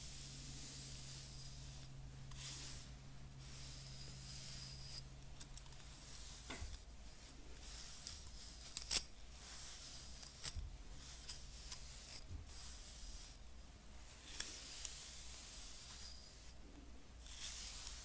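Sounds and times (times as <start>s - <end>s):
hairbrush bristles scratching: 0.0s - 13.4s, 14.0s - 18.0s.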